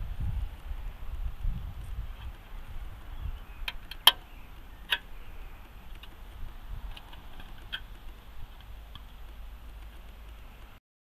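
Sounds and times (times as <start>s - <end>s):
low handling rumble: 0.0s - 10.8s.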